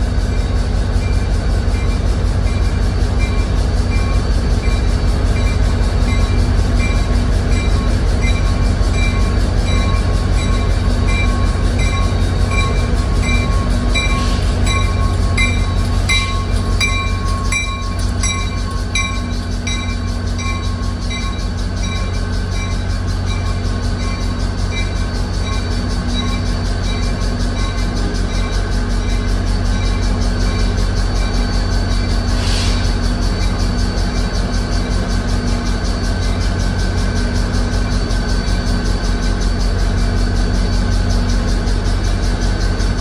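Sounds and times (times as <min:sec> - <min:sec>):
rumble of passing train cars: 0:00.0 - 0:43.0
train bell ringing: 0:00.0 - 0:43.0.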